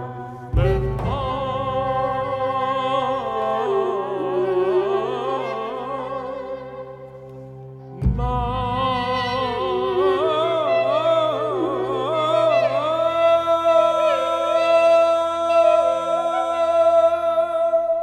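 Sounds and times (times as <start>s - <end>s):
person singing slow melody: 0.0s - 18.0s.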